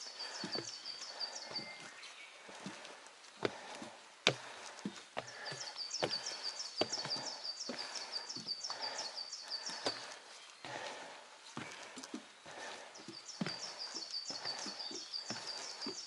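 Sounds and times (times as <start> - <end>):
footsteps on a trail: 0.0 - 16.0.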